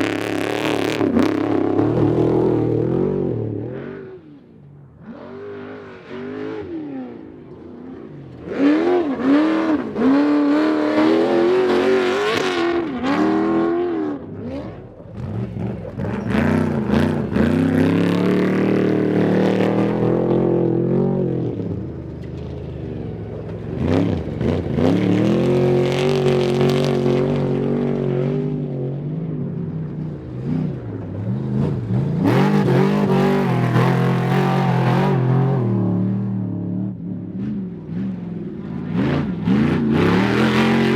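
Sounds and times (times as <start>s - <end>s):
truck engines racing past: 0.0s - 40.9s.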